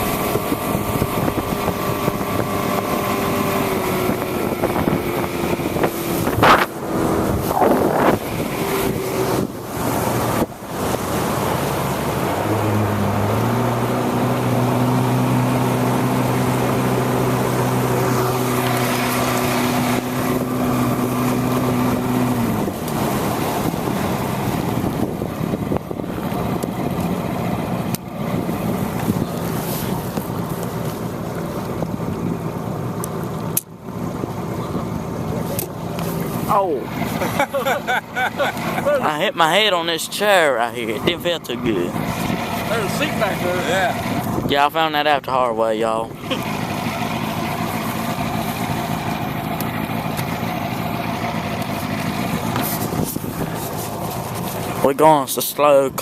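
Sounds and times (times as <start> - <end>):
engine hum rising in pitch: 0.0 - 39.5, 46.1 - 54.8
boat motor running: 0.0 - 56.0
water noise: 0.0 - 56.0
wind: 0.0 - 56.0.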